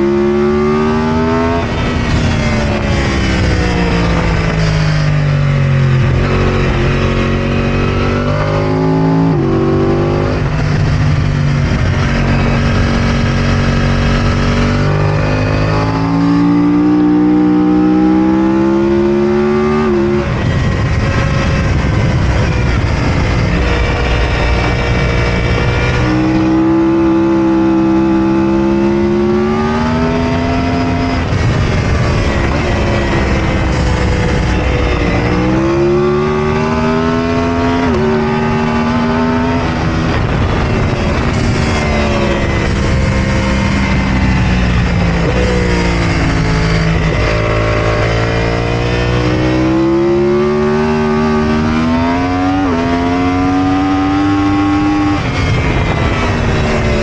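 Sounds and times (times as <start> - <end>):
motorcycle engine accelerating hard: 0.0 - 57.0.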